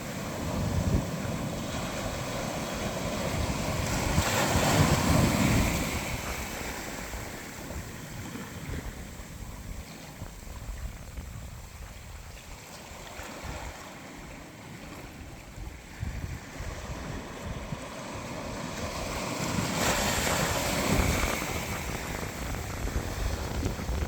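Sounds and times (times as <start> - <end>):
ocean waves washing ashore: 0.0 - 24.0.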